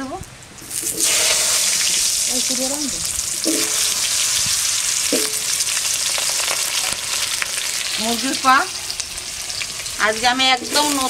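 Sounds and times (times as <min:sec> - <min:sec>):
potatoes sizzling in hot oil: 0:00.6 - 0:11.0.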